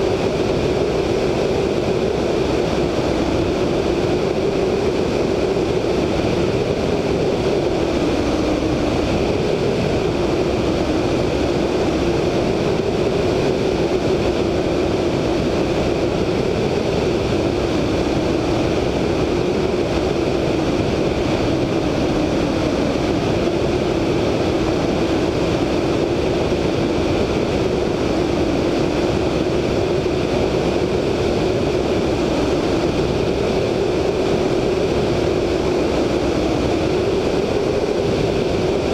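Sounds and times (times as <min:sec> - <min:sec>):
radial engine droning: 0:00.0 - 0:38.9
wind rushing over microphone: 0:00.0 - 0:38.9.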